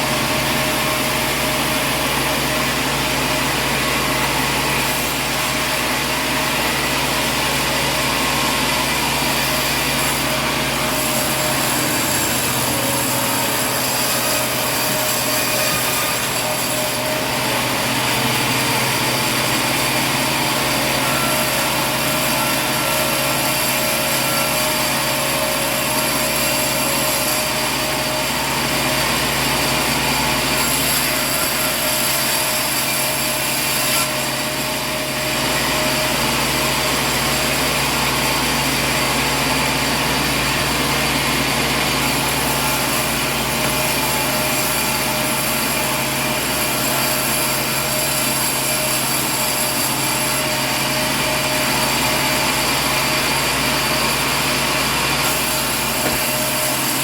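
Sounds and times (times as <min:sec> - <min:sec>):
loud machine drone with whine: 0:00.0 - 0:57.0.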